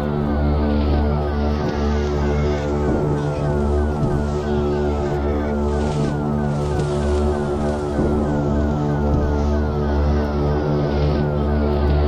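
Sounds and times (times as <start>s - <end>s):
sustained low chords: 0.0s - 12.0s.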